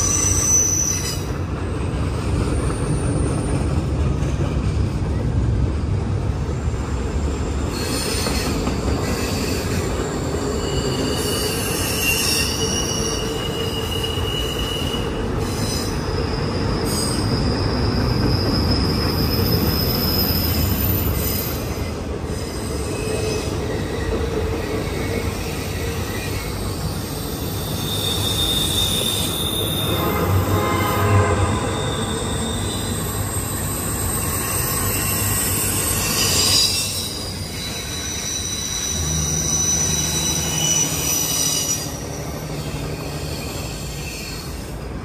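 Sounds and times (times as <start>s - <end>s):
high-pitched wheel squeal: 0.0s - 1.4s, 7.7s - 44.8s
train wheels rumbling on rails: 0.0s - 45.0s.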